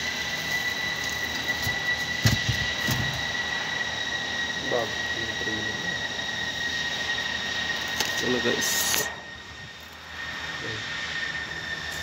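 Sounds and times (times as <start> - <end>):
shop machinery whine and hiss: 0.0 - 12.0.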